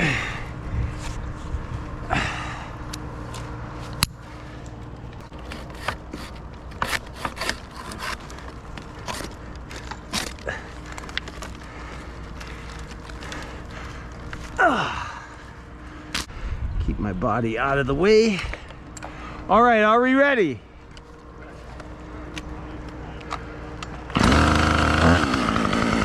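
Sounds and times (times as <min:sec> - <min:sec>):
faint steady hum: 0:00.0 - 0:24.2.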